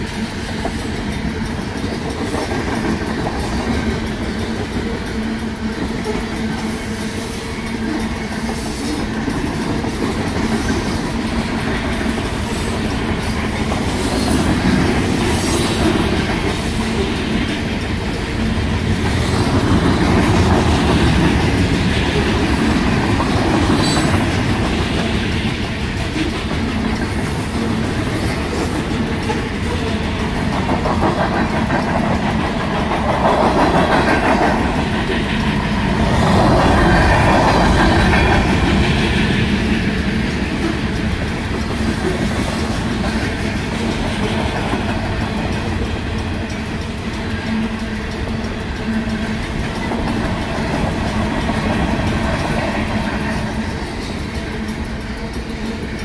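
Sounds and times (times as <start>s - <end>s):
freight train rumbling: 0.0s - 56.0s
wheels clacking over rail joints: 0.0s - 56.0s.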